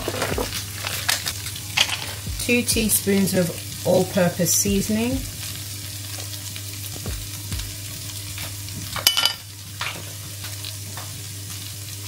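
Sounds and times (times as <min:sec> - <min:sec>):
chickpeas sizzling in oil: 0:00.0 - 0:12.0.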